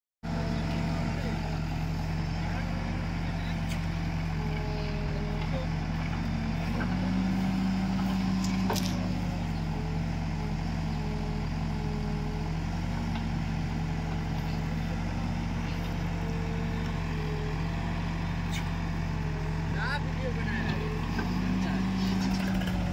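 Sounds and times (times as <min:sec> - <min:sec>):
diesel engines running: 0:00.2 - 0:22.9.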